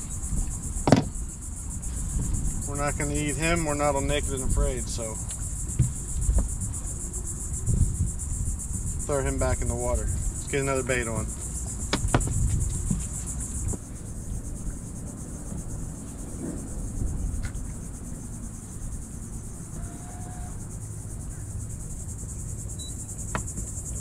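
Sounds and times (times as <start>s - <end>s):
insects buzzing: 0.0s - 24.0s
wind rumble on microphone: 0.0s - 24.0s.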